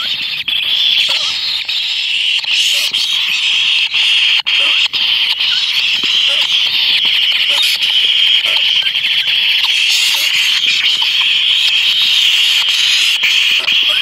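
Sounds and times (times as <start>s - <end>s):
high-pitched buzzing animal chorus: 0.0s - 14.0s.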